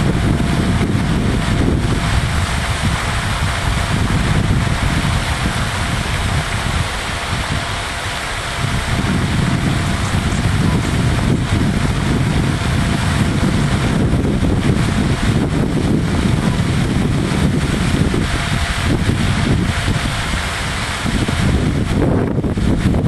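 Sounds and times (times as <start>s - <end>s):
wind buffeting the microphone: 0.0s - 23.0s.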